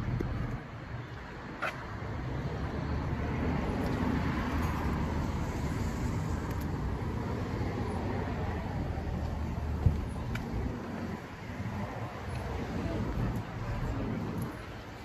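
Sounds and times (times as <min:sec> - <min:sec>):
cars passing on road: 0:00.0 - 0:15.0.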